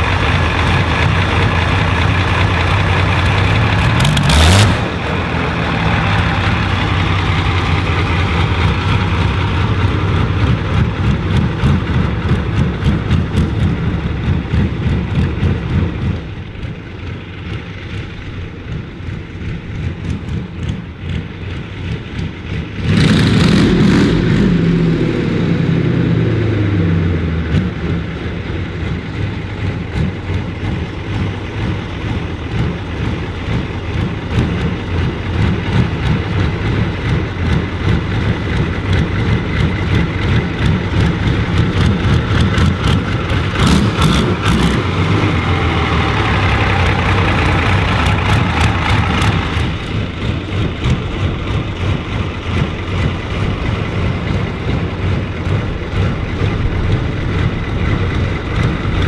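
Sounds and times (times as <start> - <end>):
engine revving through open exhaust: 0.0 - 16.8, 17.5 - 59.0.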